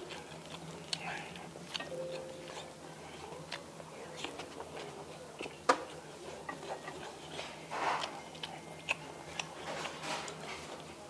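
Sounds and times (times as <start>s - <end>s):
soft rustle of food: 0.0s - 11.0s.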